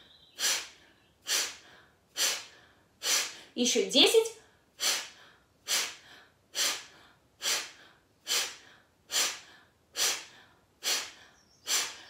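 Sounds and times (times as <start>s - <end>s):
forceful nasal exhales: 0.4s - 3.5s, 4.8s - 12.0s.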